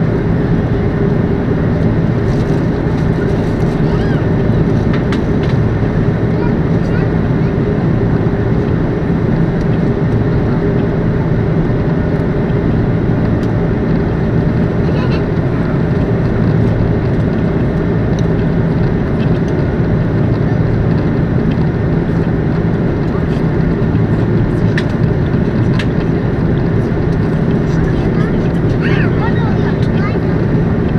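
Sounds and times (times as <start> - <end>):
airplane cabin engine drone: 0.0 - 30.9.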